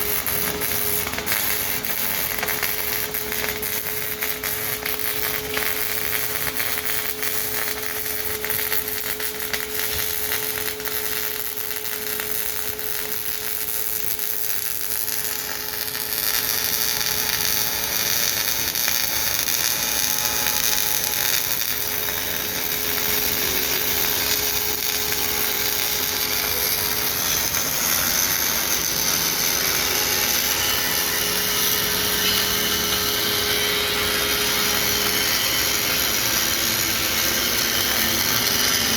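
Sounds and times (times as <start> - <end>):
welding arc crackling hiss: 0.0 - 38.9.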